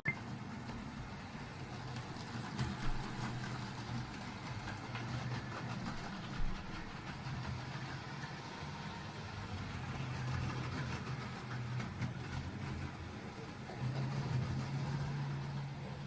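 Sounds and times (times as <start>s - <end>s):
wheels clicking over rail joints: 0.1s - 16.0s.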